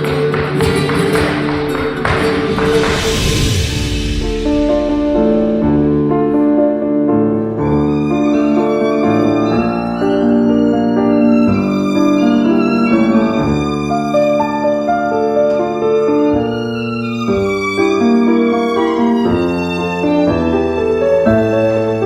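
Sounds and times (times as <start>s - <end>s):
instrumental concert music: 0.0s - 22.0s.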